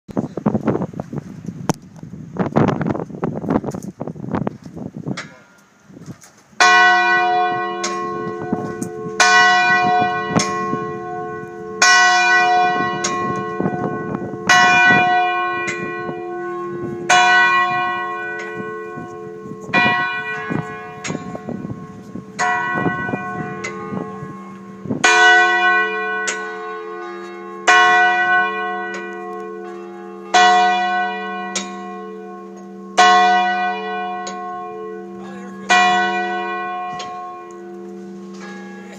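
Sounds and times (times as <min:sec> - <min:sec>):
large bell tolling: 0:06.6 - 0:38.9.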